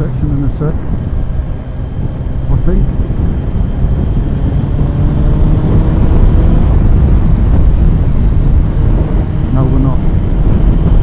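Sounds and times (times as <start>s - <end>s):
motorcycle engine and exhaust: 0.0s - 11.0s
wind noise on microphone: 0.0s - 11.0s.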